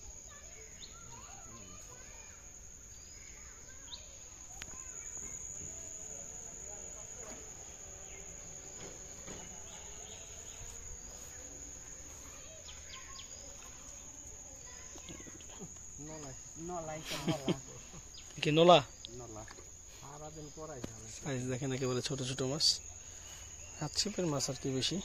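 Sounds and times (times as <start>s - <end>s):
faint bird chirps: 0.0s - 25.0s
insects droning: 0.0s - 25.0s.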